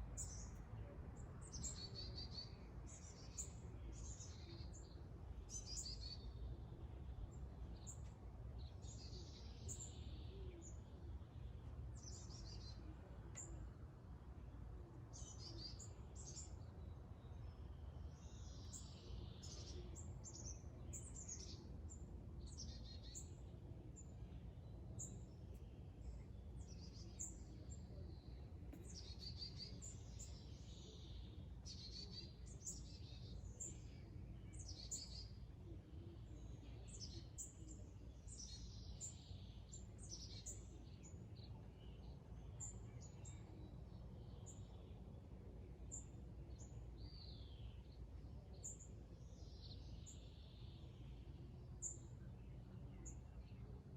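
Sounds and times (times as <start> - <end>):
faint low rumble: 0.0 - 53.9
small birds chirping: 0.1 - 0.8, 1.4 - 13.7, 15.1 - 45.2, 45.8 - 53.9.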